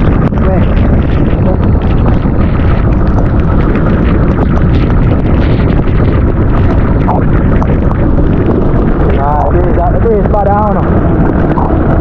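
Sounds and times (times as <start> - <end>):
boat engine: 0.0 - 12.0
water noise: 0.0 - 12.0
wind buffeting microphone: 0.0 - 12.0.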